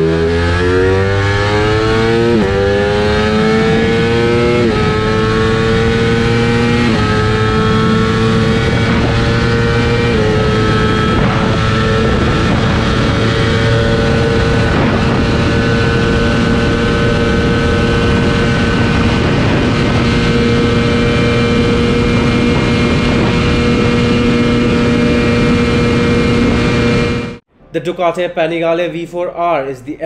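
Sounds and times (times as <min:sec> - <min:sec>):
motorcycle engine at high revs: 0:00.0 - 0:27.4
wind rush on microphone: 0:01.2 - 0:27.4.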